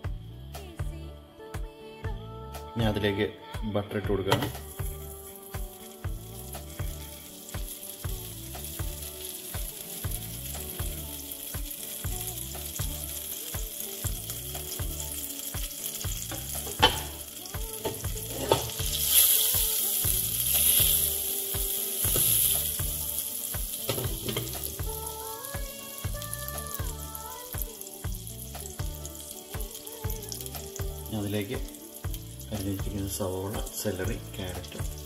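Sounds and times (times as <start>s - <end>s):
background music with beat: 0.0s - 35.0s
butter sizzling in a pot: 4.3s - 35.0s.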